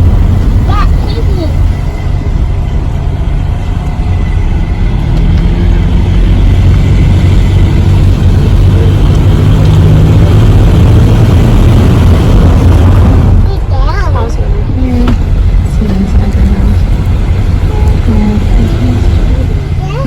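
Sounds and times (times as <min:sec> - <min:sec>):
car cabin engine and road noise: 0:00.0 - 0:20.0.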